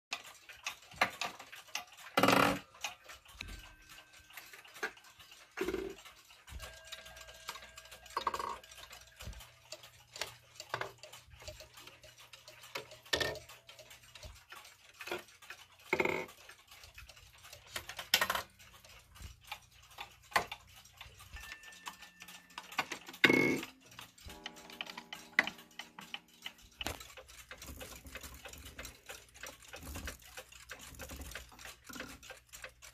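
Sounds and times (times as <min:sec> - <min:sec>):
clock lever clicks: 0:00.1 - 0:32.9
clocks ticking: 0:00.1 - 0:32.9.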